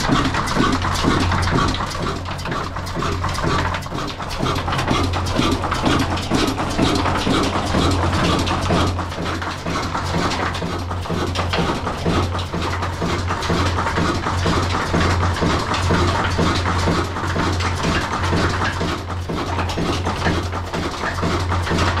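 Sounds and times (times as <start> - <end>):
diesel engine thudding: 0.0 - 22.0.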